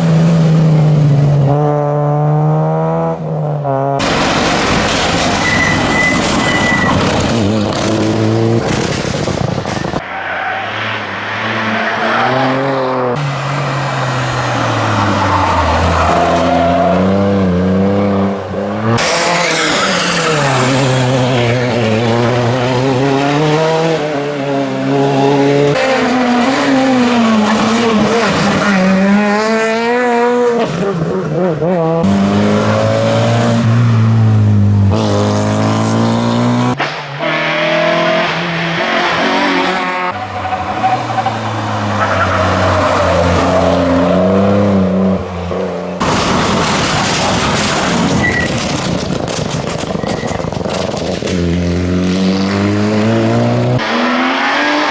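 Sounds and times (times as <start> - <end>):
rally car engines revving: 0.0 - 54.9.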